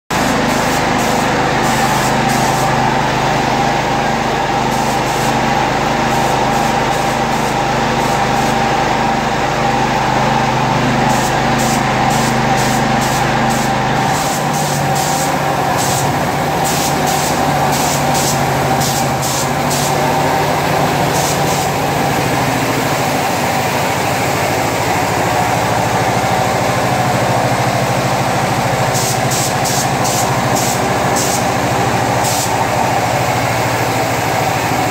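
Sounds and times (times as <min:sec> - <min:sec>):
spray gun hissing: 0:00.1 - 0:09.2, 0:10.9 - 0:34.9
air compressor humming: 0:00.1 - 0:34.9.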